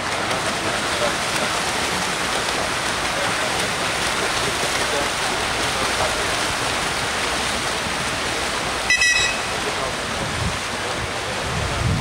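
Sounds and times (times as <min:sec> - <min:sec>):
swimmers splashing: 0:00.0 - 0:11.4.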